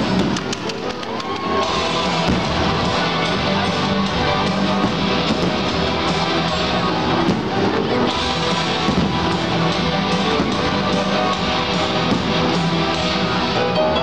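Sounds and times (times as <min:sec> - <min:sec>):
guitar-led rock music: 0:01.6 - 0:14.0.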